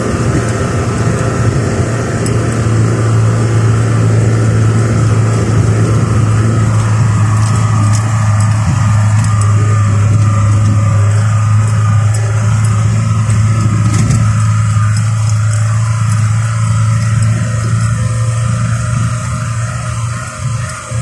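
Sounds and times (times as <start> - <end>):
car engine drone from cabin: 0.0 - 21.0
tyre road noise: 0.0 - 21.0.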